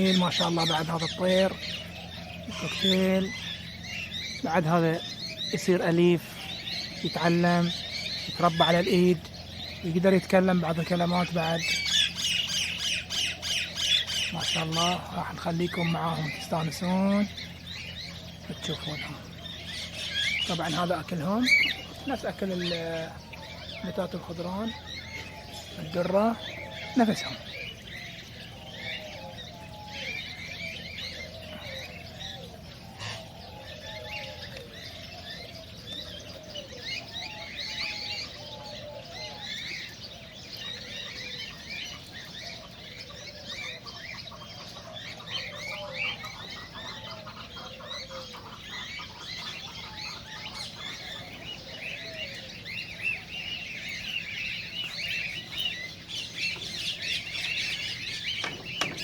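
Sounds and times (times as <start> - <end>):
cockatiels chirping: 0.0 - 59.0.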